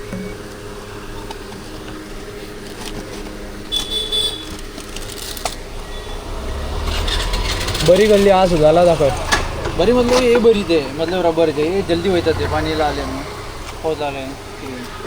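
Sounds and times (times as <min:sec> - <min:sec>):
background traffic hum: 0:00.0 - 0:15.0.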